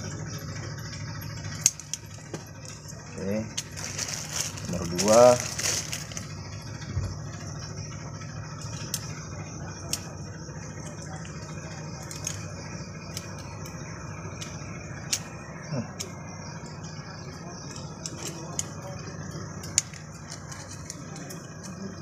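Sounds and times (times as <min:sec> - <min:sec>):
metal engine parts clicking: 0:00.0 - 0:22.0
steady low hum: 0:00.0 - 0:22.0.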